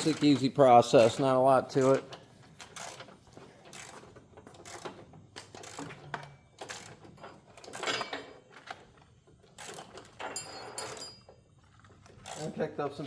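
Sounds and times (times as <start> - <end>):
metal tools clinking and scraping: 0.0 - 12.7.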